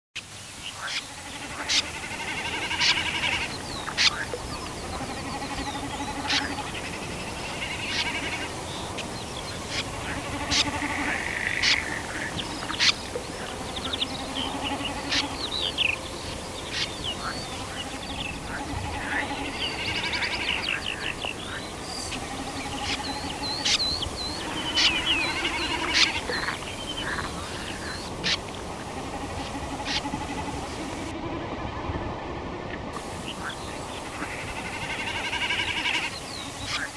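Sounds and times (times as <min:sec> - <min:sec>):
low drawn-out bird call: 0:00.7 - 0:30.9.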